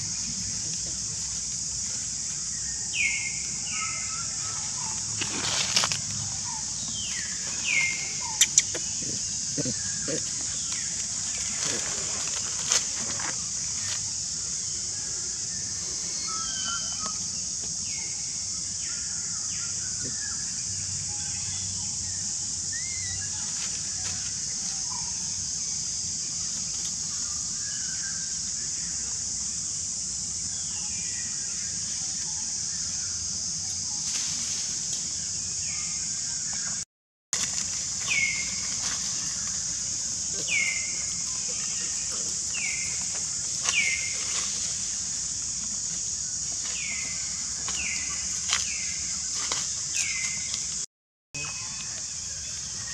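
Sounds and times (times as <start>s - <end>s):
high-pitched insect drone: 0.0s - 36.8s, 37.4s - 52.9s.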